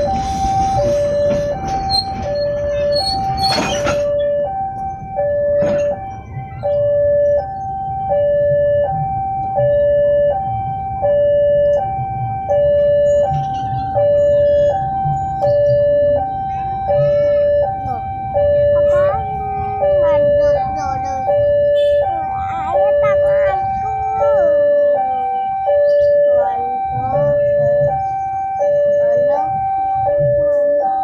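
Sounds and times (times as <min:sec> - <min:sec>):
two-tone electronic alarm: 0:00.0 - 0:31.0.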